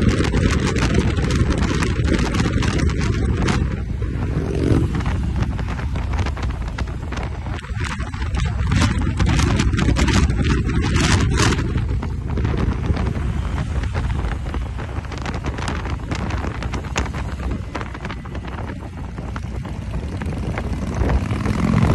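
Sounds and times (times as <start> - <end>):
motorcycle engine rumble: 0.0 - 21.9
wind buffeting microphone: 0.0 - 21.9.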